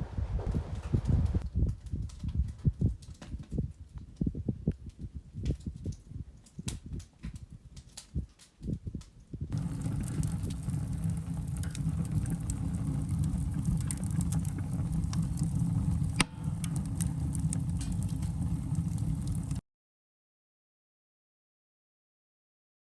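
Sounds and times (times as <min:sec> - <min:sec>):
wood fire roaring in a stove: 0:00.1 - 0:19.6
wood crackling and snapping: 0:00.3 - 0:19.6.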